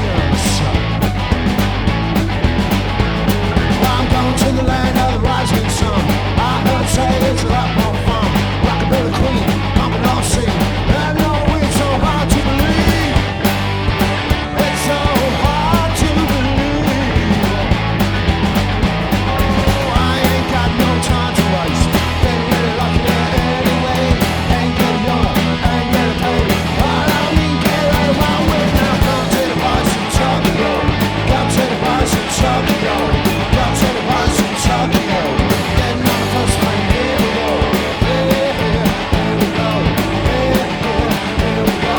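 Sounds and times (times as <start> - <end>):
person singing: 0.0 - 1.1, 3.3 - 18.1, 19.1 - 41.9
punk rock band playing: 0.0 - 41.9.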